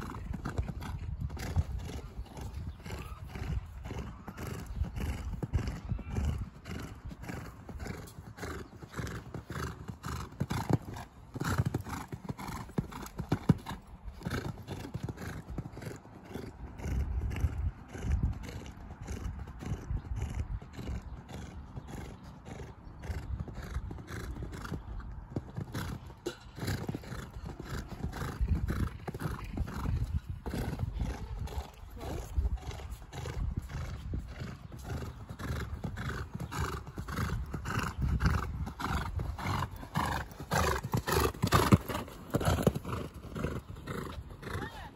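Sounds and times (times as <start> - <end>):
horse hoofbeats on sand: 0.0 - 44.9.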